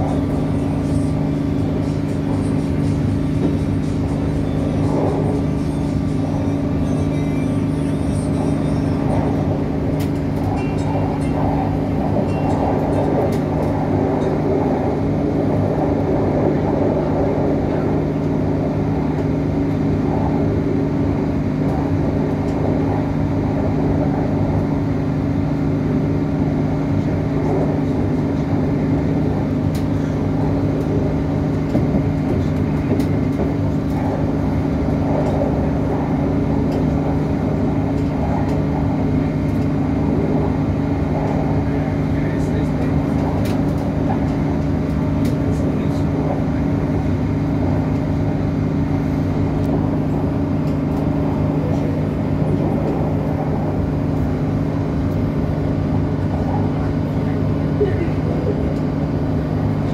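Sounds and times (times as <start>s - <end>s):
train cabin drone: 0.0s - 59.9s.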